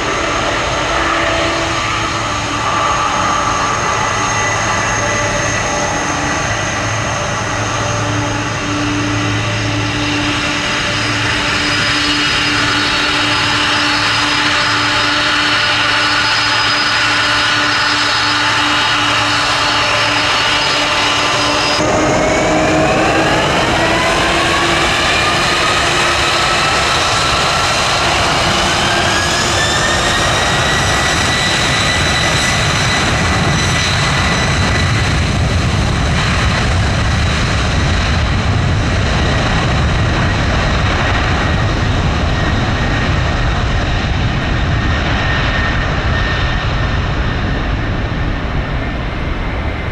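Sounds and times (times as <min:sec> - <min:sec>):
deep rumble: 0:00.0 - 0:49.9
jet engines spooling up: 0:00.0 - 0:49.9.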